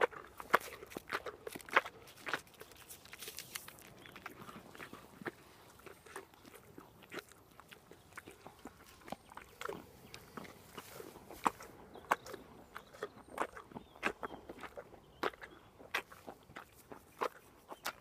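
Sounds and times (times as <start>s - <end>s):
pony chewing apple: 0.0s - 18.0s.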